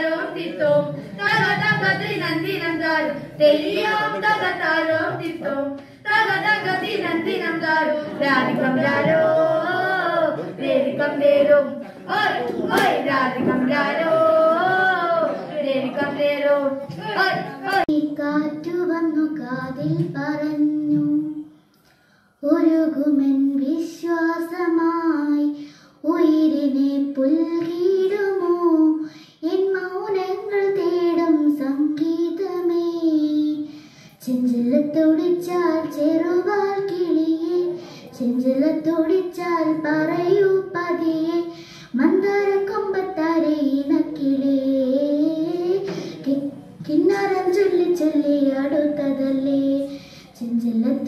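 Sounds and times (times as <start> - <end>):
girl singing: 0.0 - 21.7, 22.4 - 51.0.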